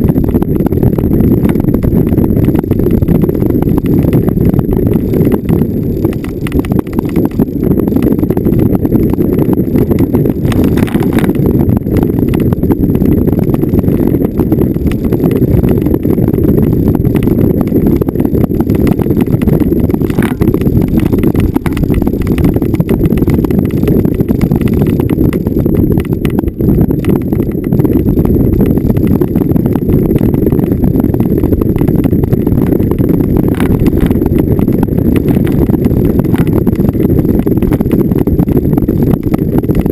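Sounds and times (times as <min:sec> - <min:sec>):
fine rattling and jolting: 0:00.0 - 0:39.9
vehicle driving over rough ground: 0:00.0 - 0:39.9.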